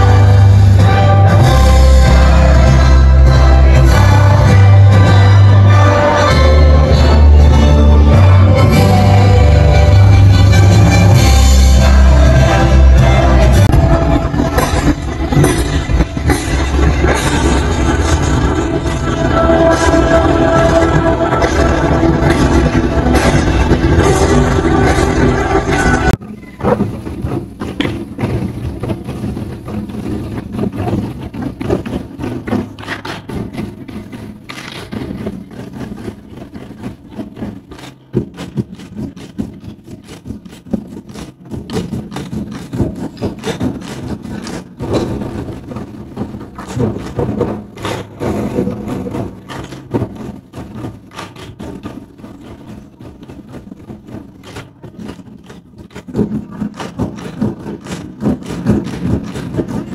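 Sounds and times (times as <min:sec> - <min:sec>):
large drums beaten fast: 0:00.0 - 0:59.9.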